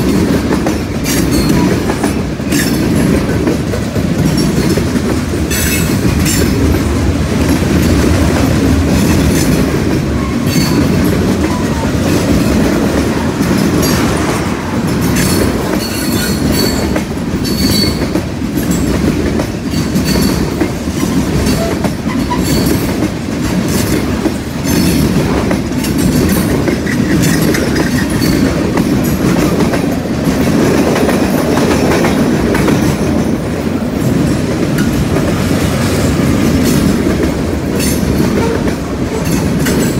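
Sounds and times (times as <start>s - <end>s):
freight train rumbling past: 0.0s - 39.9s
wheels clacking over track joints: 0.0s - 39.9s.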